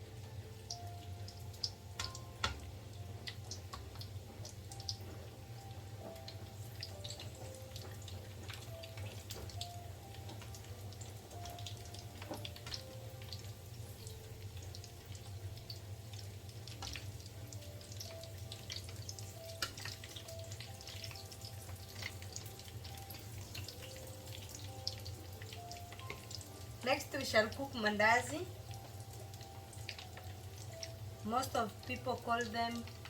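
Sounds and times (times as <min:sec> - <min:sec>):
food deep-frying in oil: 0:00.0 - 0:33.0.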